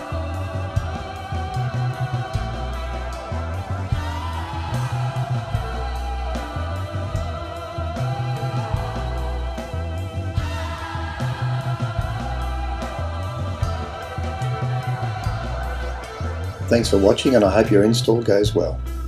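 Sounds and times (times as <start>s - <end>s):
band music with drums bass guitar: 0.0s - 19.0s.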